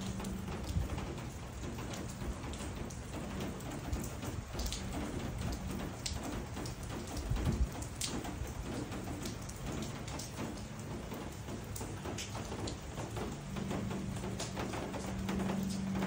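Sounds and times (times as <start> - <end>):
raindrops striking close by: 0.0 - 16.0
steady rain falling: 0.0 - 16.0.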